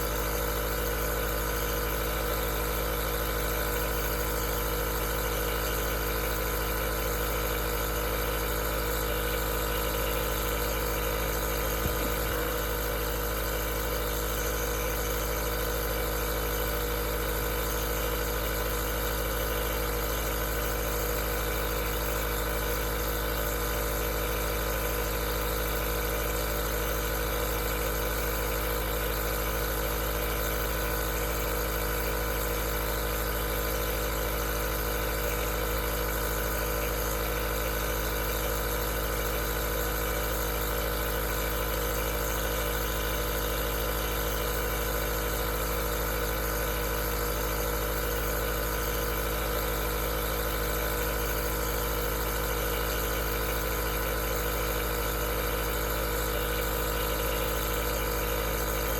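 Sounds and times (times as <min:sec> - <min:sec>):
nebulizer compressor motor hum: 0:00.0 - 0:58.9.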